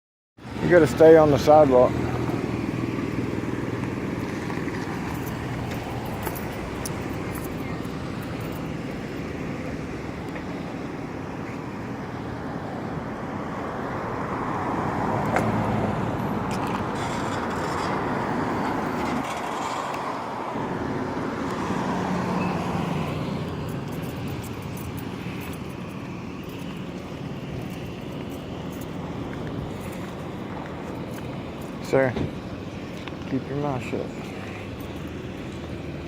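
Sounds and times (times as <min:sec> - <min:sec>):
vehicle passing by: 0:00.4 - 0:32.3
cars passing on street: 0:00.4 - 0:36.0.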